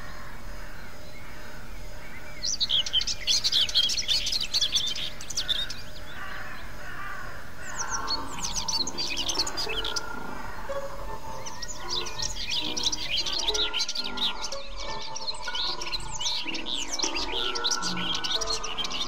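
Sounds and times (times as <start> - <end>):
rapid high bird chirps: 0.9 - 19.0.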